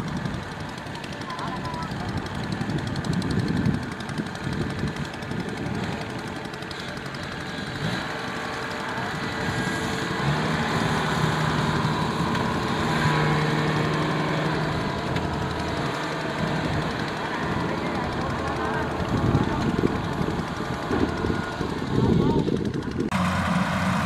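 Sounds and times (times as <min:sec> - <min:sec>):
combine harvester diesel engine: 0:00.0 - 0:24.0.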